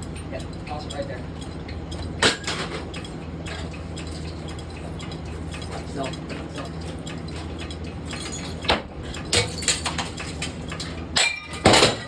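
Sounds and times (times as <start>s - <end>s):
ceiling fan humming: 0.0s - 12.0s
light clinks and clatters: 0.0s - 12.0s.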